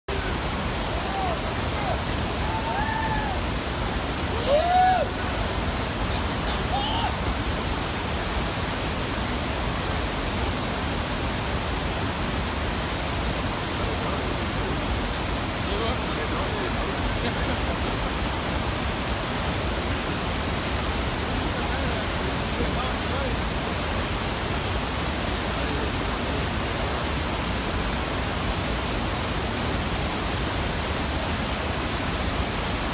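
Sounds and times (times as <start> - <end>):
whitewater rapids rushing: 0.1 - 32.9.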